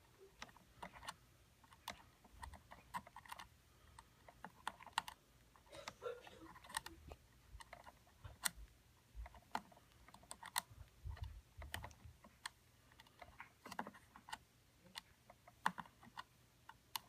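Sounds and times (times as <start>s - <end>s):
fingers twisting thin wires: 0.0s - 17.0s.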